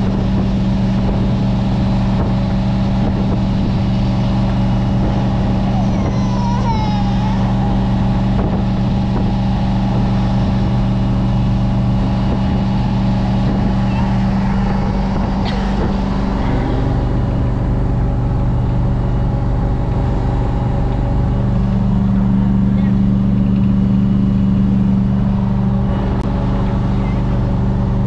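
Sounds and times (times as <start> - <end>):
boat engine running: 0.0 - 28.0
rush of wind and water: 0.0 - 28.0.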